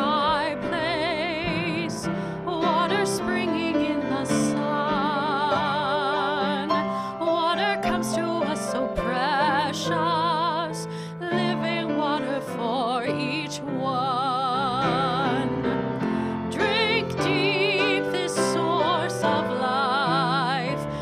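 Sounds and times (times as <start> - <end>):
woman singing with vibrato: 0.0 - 15.8, 16.4 - 21.0
grand piano playing chords: 0.0 - 21.0.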